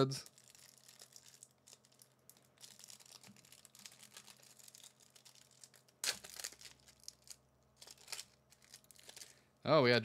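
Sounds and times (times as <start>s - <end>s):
plastic wrapper crinkling: 0.0s - 9.4s
wrapper ripping: 0.0s - 9.4s.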